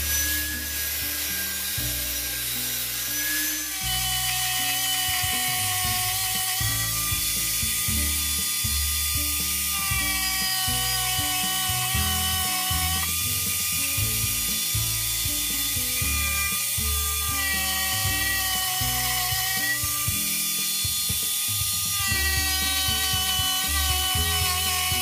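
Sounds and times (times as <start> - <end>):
background music: 0.0 - 25.0
table saw cutting plywood: 0.0 - 25.0.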